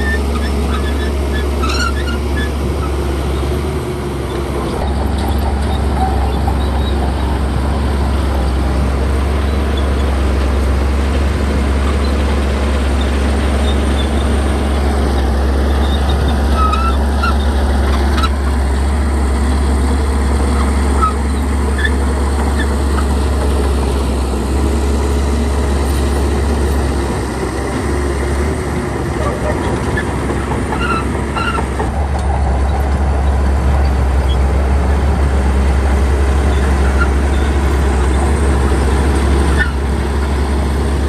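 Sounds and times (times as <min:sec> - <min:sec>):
diesel machinery engine drone: 0:00.0 - 0:41.0.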